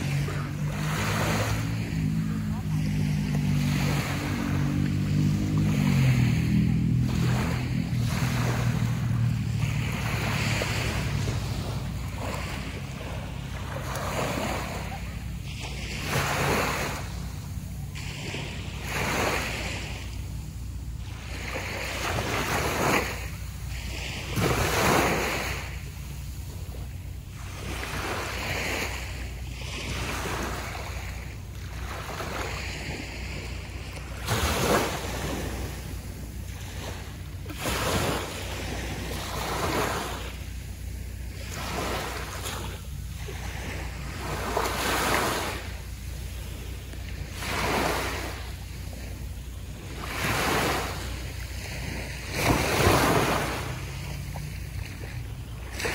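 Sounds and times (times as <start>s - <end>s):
small waves breaking on sand: 0.0s - 55.9s
wind rumble on microphone: 0.0s - 55.9s.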